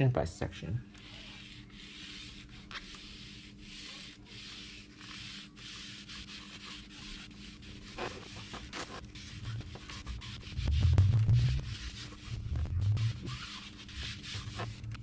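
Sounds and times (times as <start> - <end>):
applicator pad scrubbing wheel: 1.0 - 15.0.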